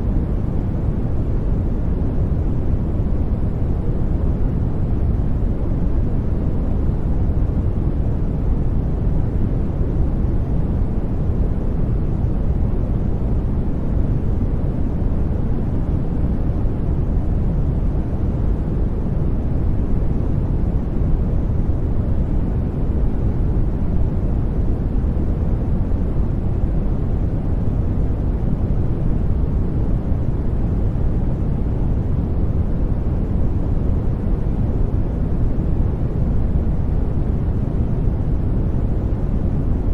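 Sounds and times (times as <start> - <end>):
deep white noise rush: 0.0 - 39.9.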